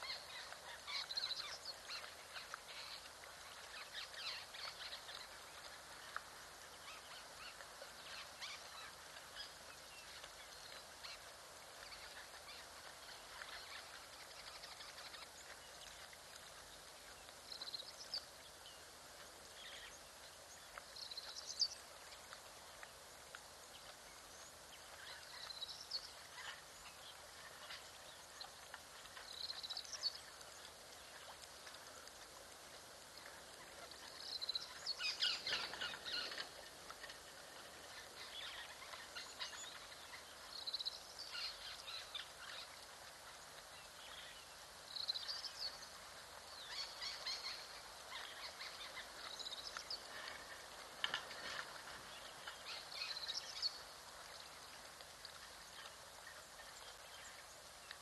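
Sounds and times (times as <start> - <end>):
lion cub lapping water: 0.0 - 58.0.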